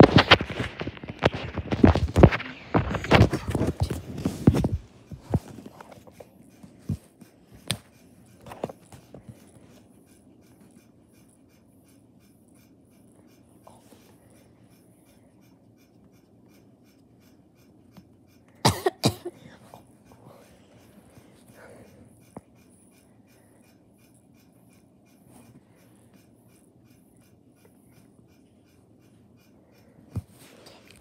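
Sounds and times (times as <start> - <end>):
marker scratching on skin: 0.0 - 31.0.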